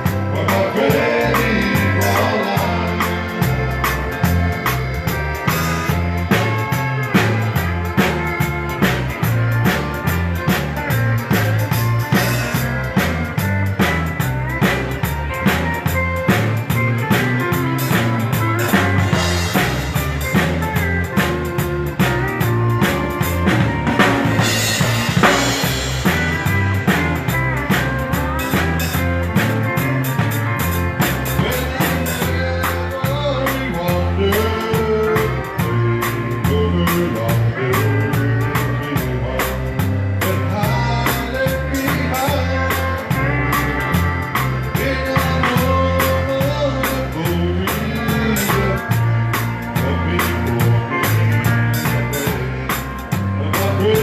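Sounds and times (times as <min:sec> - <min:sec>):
drum kit beat: 0:00.0 - 0:54.0
live band playing country music: 0:00.0 - 0:54.0
walking bass line: 0:00.0 - 0:54.0.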